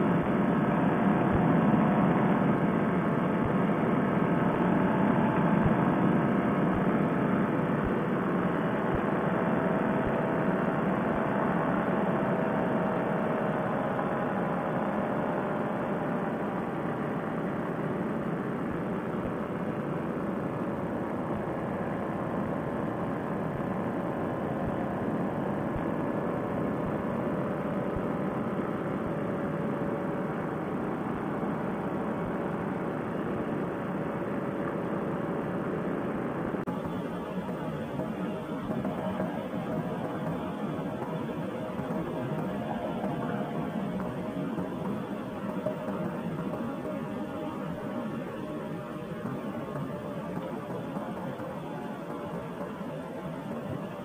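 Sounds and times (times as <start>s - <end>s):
paramotor engine droning: 0.0s - 54.0s.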